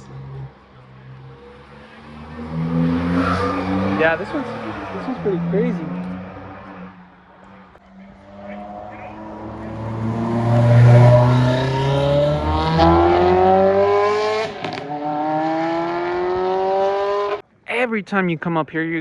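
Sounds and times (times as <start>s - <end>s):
car engine accelerating: 0.0s - 17.4s.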